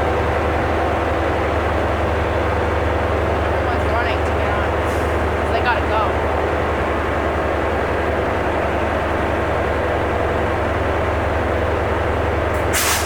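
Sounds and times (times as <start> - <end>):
train rumble and hiss: 0.0 - 13.0.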